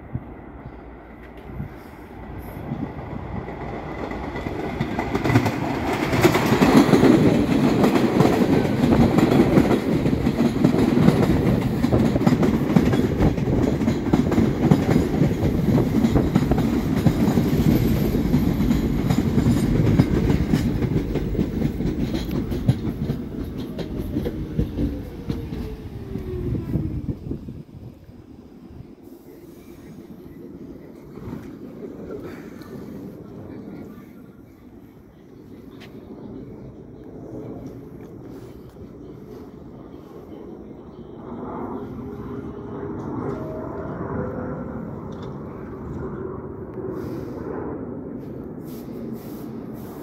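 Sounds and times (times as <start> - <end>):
subway train rumbling past: 0.0 - 50.0.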